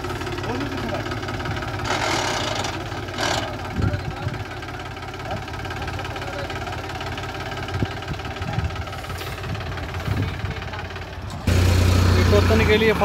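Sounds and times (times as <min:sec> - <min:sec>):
tractor diesel engine straining: 0:00.0 - 0:13.0.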